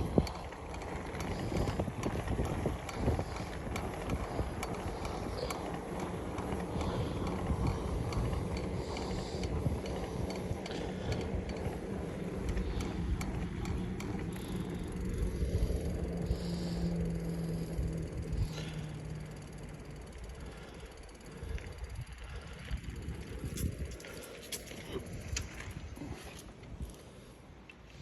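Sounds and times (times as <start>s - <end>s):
heavy breathing: 0.0s - 23.1s
steady low hum: 0.0s - 28.0s
wind rumbling on microphone: 0.0s - 28.0s.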